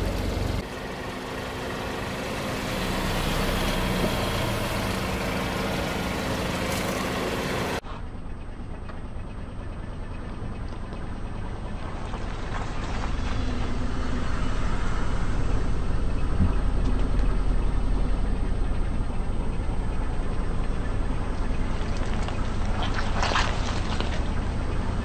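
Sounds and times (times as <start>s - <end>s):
car engine running at low speed: 0.0s - 25.0s.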